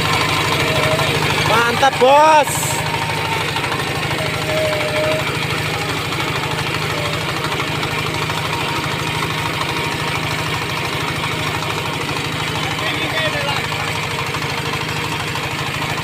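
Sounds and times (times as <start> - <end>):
fast even machine knocking: 0.0 - 16.0
low mechanical hum: 0.0 - 16.0.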